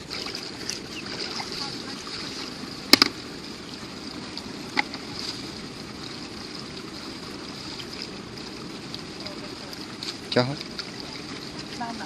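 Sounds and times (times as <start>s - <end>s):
moving water: 0.0s - 12.0s.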